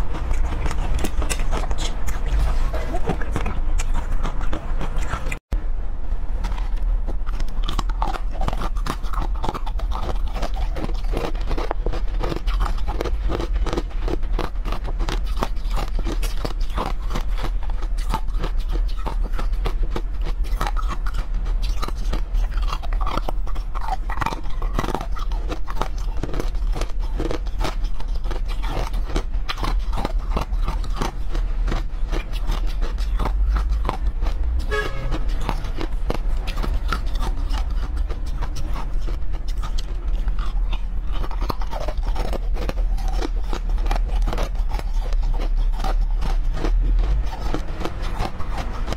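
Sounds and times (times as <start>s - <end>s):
chewing and crunching frozen chunks: 0.0s - 5.5s, 6.2s - 48.9s
steady low hum: 0.0s - 48.9s.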